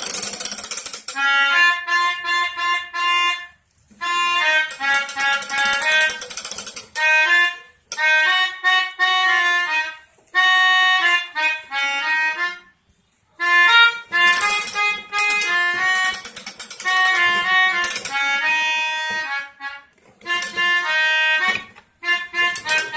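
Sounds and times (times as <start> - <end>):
melodica playing chords: 0.0 - 22.9.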